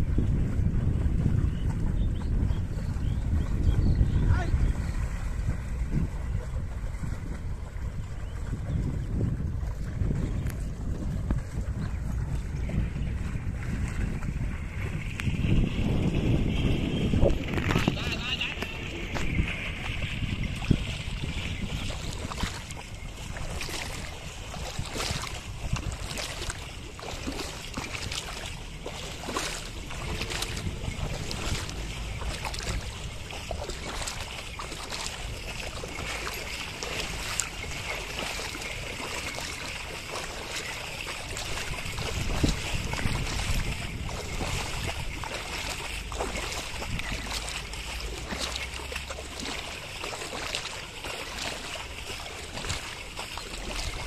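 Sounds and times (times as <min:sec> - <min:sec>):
splashing water and mud: 0:00.0 - 0:54.0
wind rumble on microphone: 0:00.0 - 0:54.0.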